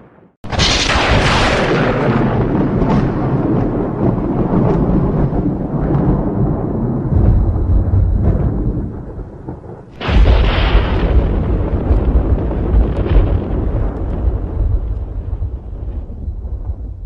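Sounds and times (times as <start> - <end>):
sharp thunder crack: 0.0 - 17.0
thunder rumbling: 0.0 - 17.0.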